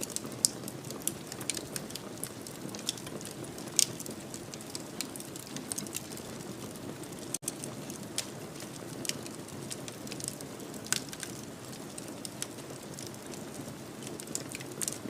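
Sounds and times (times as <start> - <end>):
fire popping and snapping: 0.0 - 15.0.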